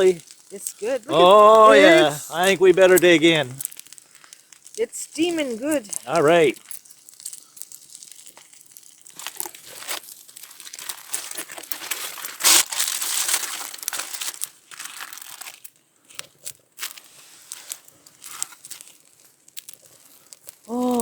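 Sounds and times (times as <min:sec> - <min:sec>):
small clicks and scrapes: 0:00.0 - 0:01.0, 0:03.6 - 0:21.0
crinkly rustling: 0:00.0 - 0:21.0.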